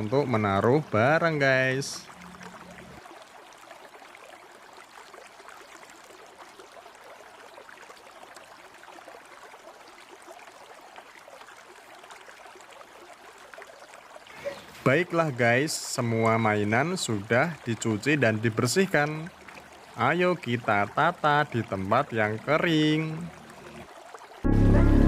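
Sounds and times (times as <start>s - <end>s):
water running in a shallow stream: 0.0s - 24.5s.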